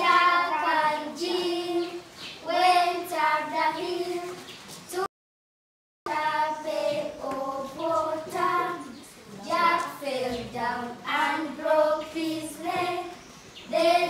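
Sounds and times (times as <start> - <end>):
children singing: 0.0 - 5.1, 6.1 - 14.0.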